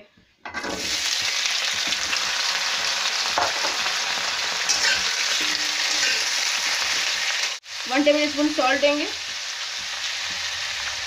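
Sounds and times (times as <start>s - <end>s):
potatoes sizzling in hot oil: 0.6s - 11.0s.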